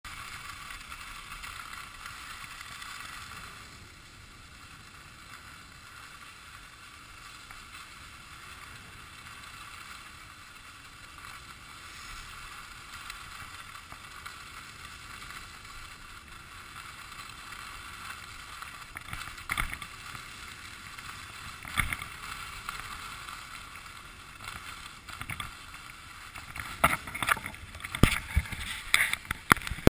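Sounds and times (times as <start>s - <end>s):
skis hissing on snow: 0.1s - 29.9s.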